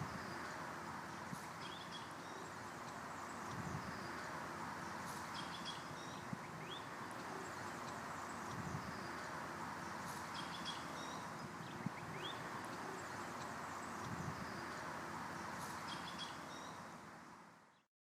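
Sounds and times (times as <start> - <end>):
background hiss: 0.0 - 17.8.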